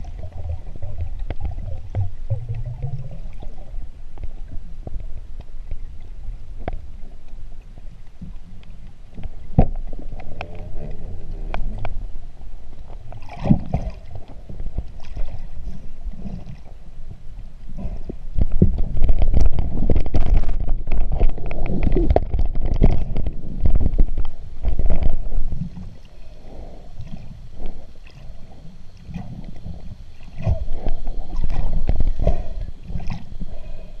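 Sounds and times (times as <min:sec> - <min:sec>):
underwater churning rumble: 0:00.0 - 0:34.0.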